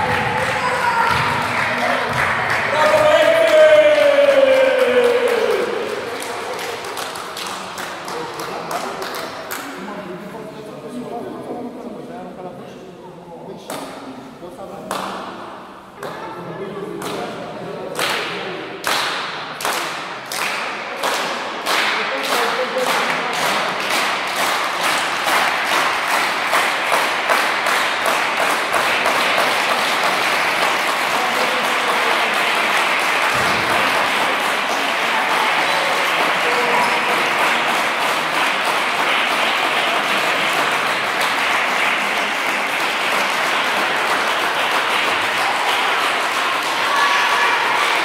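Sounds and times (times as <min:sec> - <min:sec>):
people clapping in rhythm: 0:00.0 - 0:10.0, 0:13.6 - 0:14.0, 0:14.8 - 0:16.2, 0:16.9 - 0:48.0.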